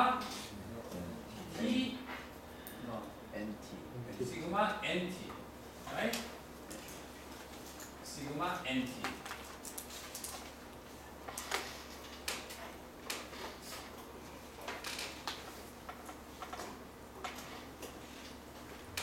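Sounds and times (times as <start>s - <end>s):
low hum of room equipment: 0.0s - 19.0s.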